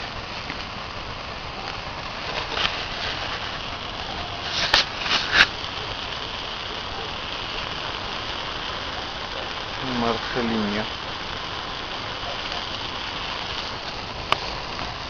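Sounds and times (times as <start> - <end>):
bonfire hissing and crackling: 0.0 - 15.0
sharp pops: 1.6 - 15.0.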